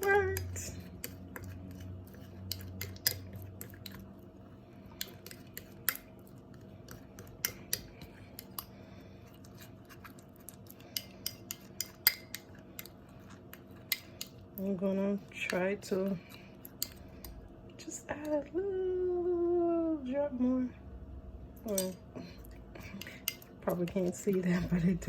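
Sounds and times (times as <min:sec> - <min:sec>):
utensil stirring slime in bowl: 0:00.0 - 0:18.4, 0:22.7 - 0:25.0
faint steady hum: 0:00.0 - 0:25.0.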